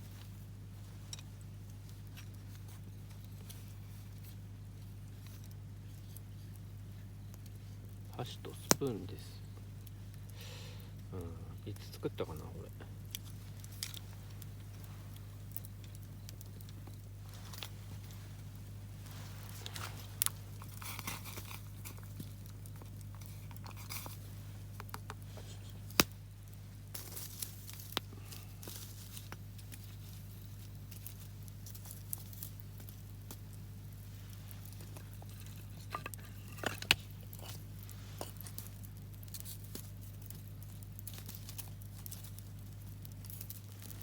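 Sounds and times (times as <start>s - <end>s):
campfire crackling and popping: 0.0s - 44.0s
steady low hum: 0.0s - 44.0s.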